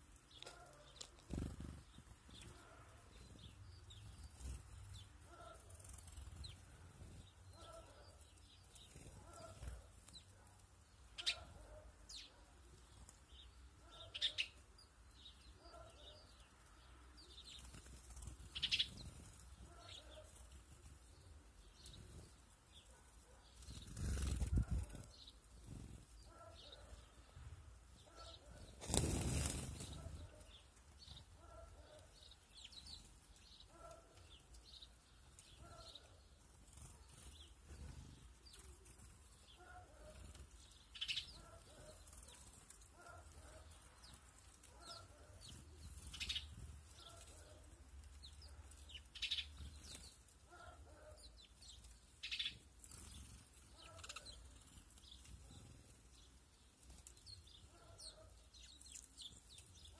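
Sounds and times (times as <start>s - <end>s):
small birds chirping: 0.0s - 59.9s
small birds' wingbeats: 0.0s - 59.9s.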